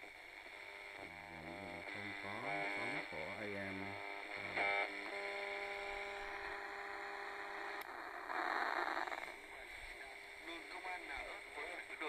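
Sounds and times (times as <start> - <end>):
radio buzzing tone: 0.0 - 12.0
radio static burst: 0.0 - 12.0
radio click: 0.4 - 8.0, 9.3 - 12.0.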